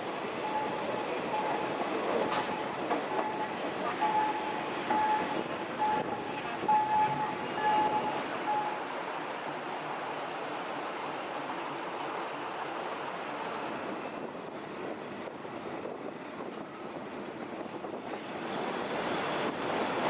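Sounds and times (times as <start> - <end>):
train wheel and wind noise: 0.0 - 20.0.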